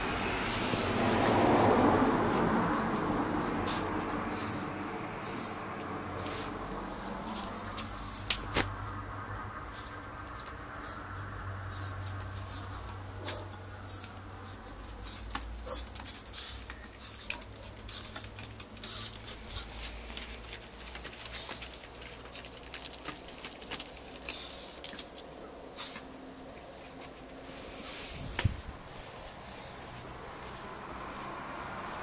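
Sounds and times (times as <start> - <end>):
cat and dog scuffling: 0.4 - 32.0.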